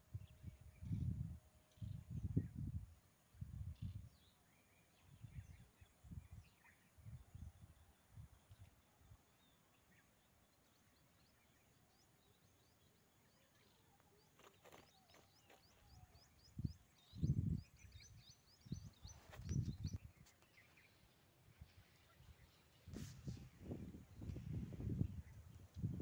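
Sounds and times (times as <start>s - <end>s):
small birds chirping: 3.4s - 26.0s.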